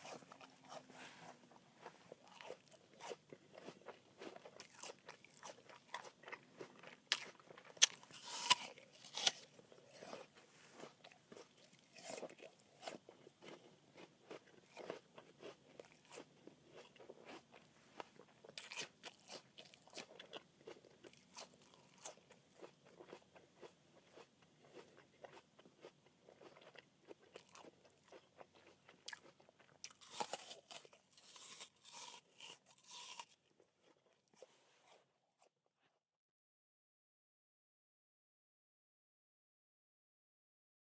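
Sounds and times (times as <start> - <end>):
crisp apple crunching: 0.0 - 35.0.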